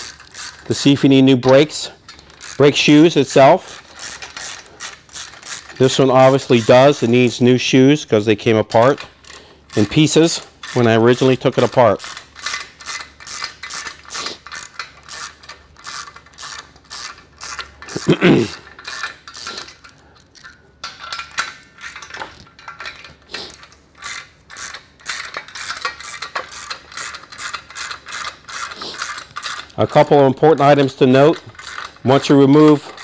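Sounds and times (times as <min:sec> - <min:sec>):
ratchet wrench clicking: 0:00.0 - 0:07.5, 0:08.8 - 0:33.0.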